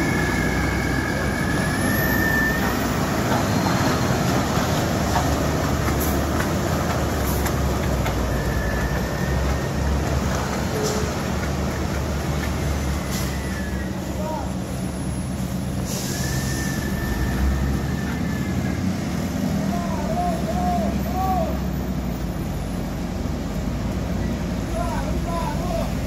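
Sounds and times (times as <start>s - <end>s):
diesel truck engine under load: 0.0s - 26.0s
tyres hissing on wet road: 0.0s - 26.0s.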